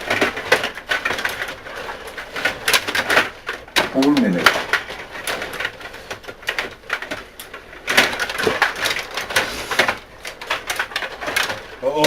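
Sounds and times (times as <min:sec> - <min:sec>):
plastic table hockey clacks: 0:00.0 - 0:12.0.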